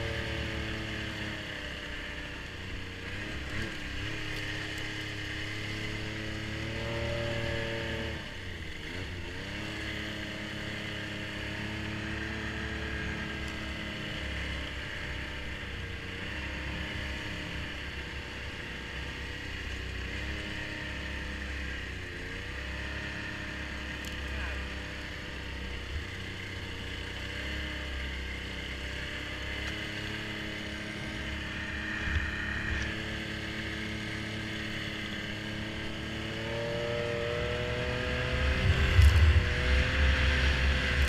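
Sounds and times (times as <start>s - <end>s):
snowmobile engine running: 0.0s - 41.0s.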